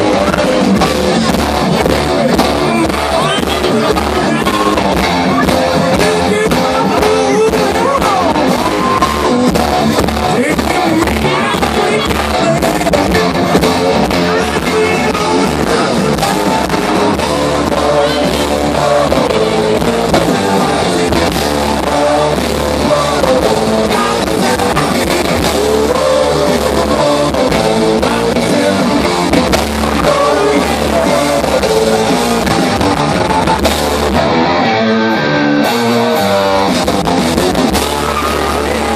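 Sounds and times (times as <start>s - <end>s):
bass guitar: 0.0s - 38.9s
drum kit: 0.0s - 38.9s
electric guitars: 0.0s - 38.9s
person singing: 0.0s - 38.9s.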